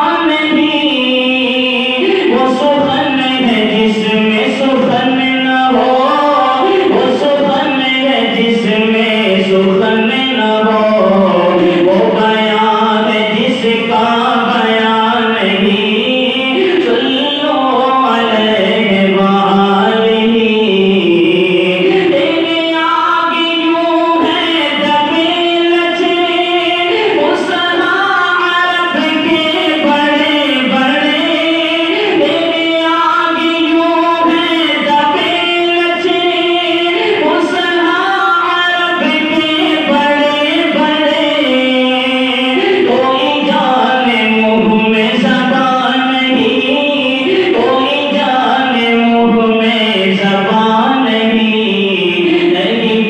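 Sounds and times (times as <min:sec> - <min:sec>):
man singing through loudspeaker: 0:00.0 - 0:53.0.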